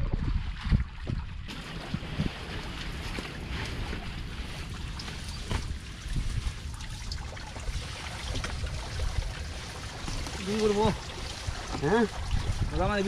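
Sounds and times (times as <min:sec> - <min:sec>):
water splashing and trickling: 0:00.0 - 0:13.0
wind buffeting microphone: 0:00.0 - 0:13.0.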